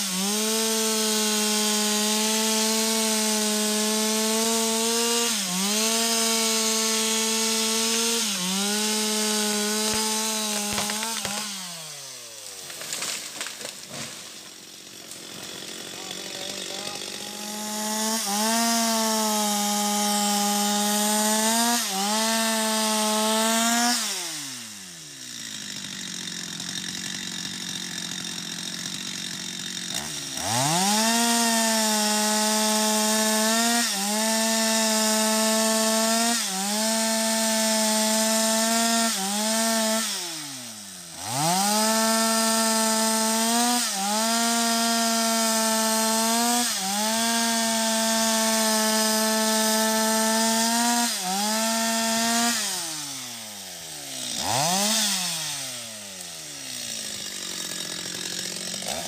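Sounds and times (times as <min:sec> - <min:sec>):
chainsaw cutting wood: 0:00.0 - 0:59.0
chainsaw idling: 0:00.0 - 0:59.0.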